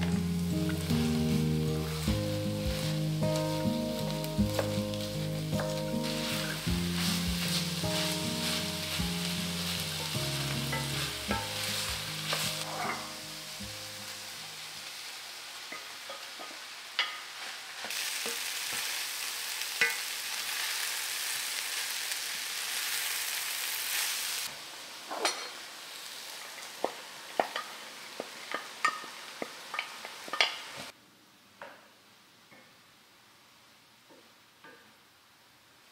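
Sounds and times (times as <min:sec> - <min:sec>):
vegetables sizzling in a pan: 0:00.0 - 0:31.0.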